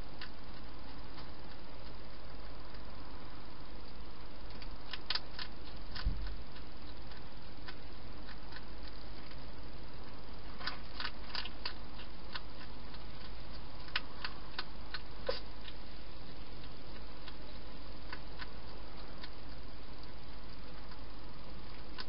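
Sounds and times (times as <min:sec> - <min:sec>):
hedgehog chewing: 0:00.0 - 0:22.0
steady hiss: 0:00.0 - 0:22.0.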